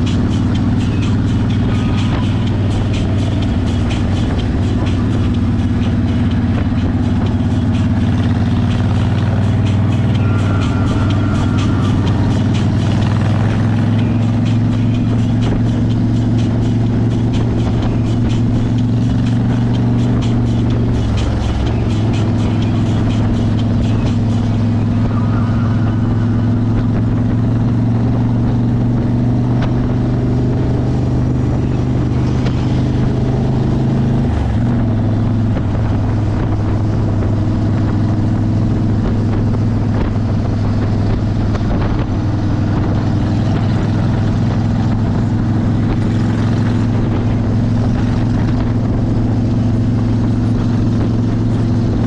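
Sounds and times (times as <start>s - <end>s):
motorcycle engines droning: 0.0s - 52.0s.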